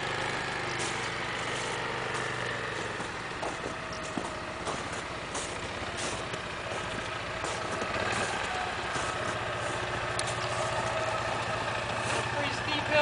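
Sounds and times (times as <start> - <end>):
tracked atv engine running: 0.0 - 13.0.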